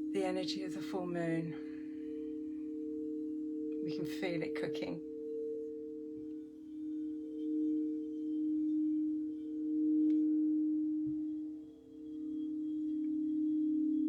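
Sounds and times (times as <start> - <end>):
singing bowls ringing: 0.0 - 14.0.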